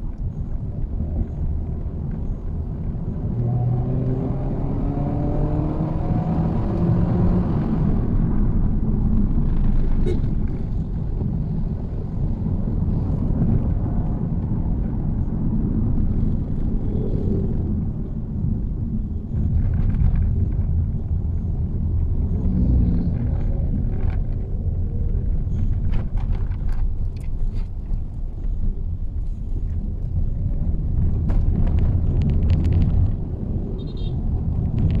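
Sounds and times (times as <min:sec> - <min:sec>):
car interior driving rumble: 0:00.0 - 0:35.0.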